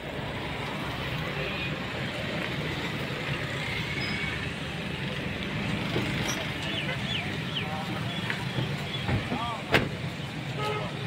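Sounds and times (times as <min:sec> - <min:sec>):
road traffic noise: 0:00.0 - 0:11.0
suv engine and tyres rumbling: 0:00.0 - 0:11.0.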